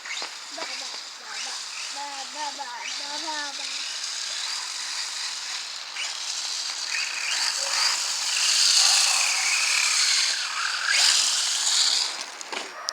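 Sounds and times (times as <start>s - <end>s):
electric motor whining: 0.0s - 12.7s.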